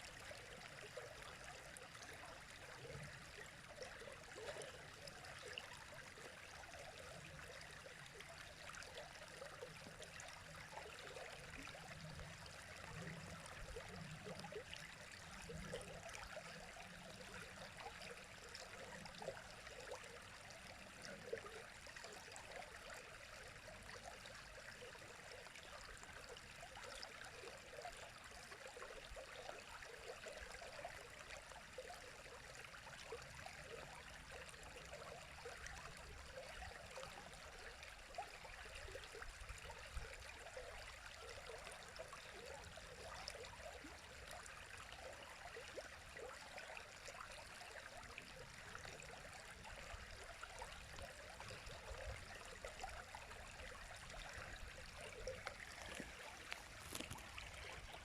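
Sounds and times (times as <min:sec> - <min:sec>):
faint river flowing: 0:00.0 - 0:58.0.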